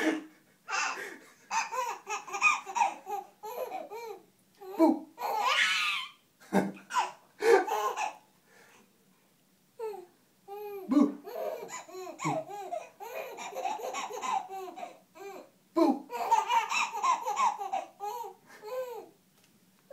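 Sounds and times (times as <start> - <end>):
baby cackling with laughter: 0.0 - 8.3, 9.8 - 19.2.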